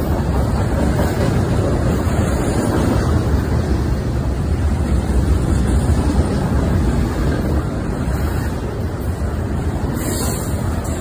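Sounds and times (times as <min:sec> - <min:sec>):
steel train wheels rumbling on rail: 0:00.0 - 0:11.0.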